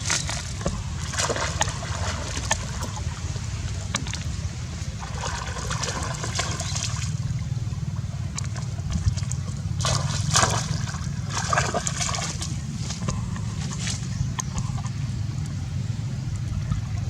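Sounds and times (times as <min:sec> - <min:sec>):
low rumble: 0:00.0 - 0:17.0
water splashing and trickling: 0:00.0 - 0:17.0.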